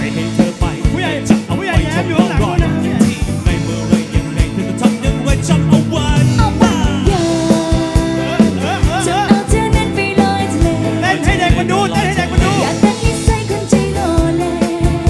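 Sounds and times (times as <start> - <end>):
live band playing pop-rap: 0.0 - 15.0
person singing: 0.0 - 15.0.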